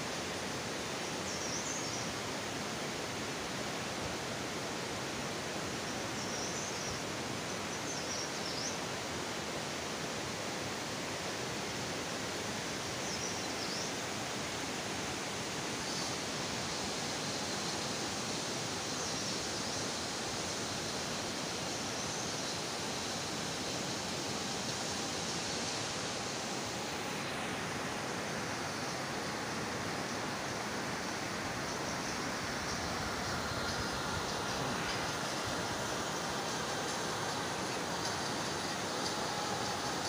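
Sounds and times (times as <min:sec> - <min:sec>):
flowing river water: 0:00.0 - 0:40.0.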